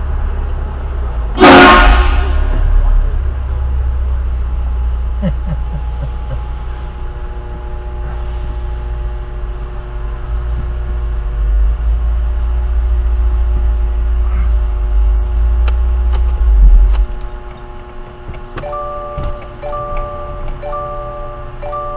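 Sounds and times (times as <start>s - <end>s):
vehicle driving rumble: 0.0s - 21.9s.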